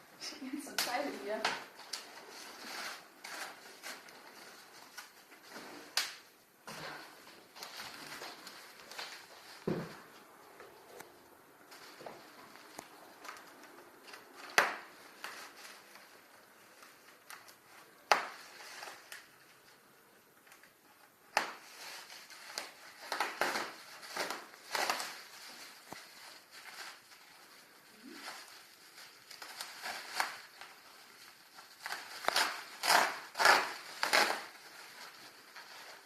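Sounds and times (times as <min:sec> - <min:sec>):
paper and cardboard rustling: 0:00.3 - 0:11.0, 0:11.6 - 0:36.0.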